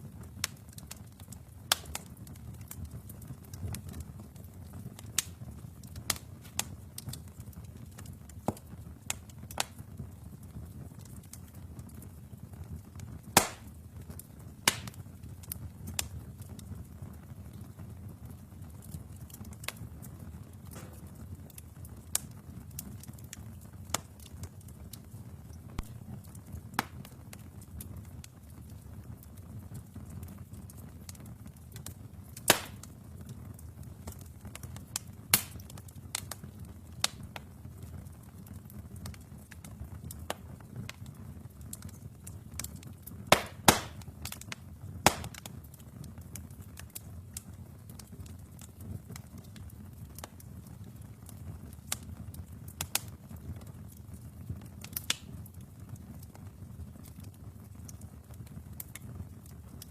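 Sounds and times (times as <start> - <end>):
fire crackles and pops: 0.0 - 59.9
low rumble of fire flames: 0.0 - 59.9.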